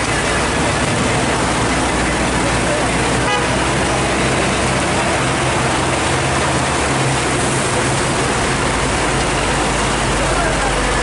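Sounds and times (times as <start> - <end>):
heavy rain pouring: 0.0 - 11.0
truck and car engines humming: 0.0 - 11.0.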